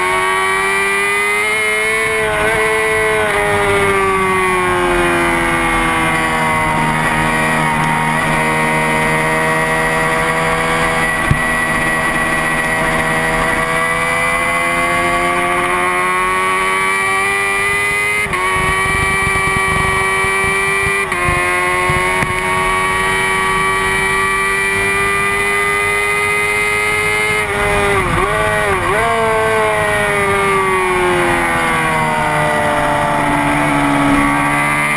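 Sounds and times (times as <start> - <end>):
motorcycle engine revving high: 0.0 - 34.9.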